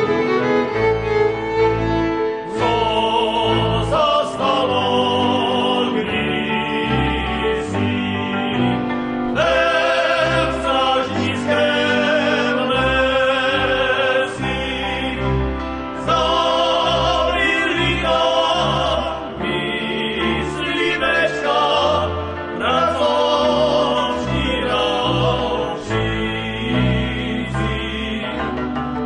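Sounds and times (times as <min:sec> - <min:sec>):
double bass: 0:00.0 - 0:29.0
violins: 0:00.0 - 0:29.0
men singing together: 0:02.5 - 0:28.7.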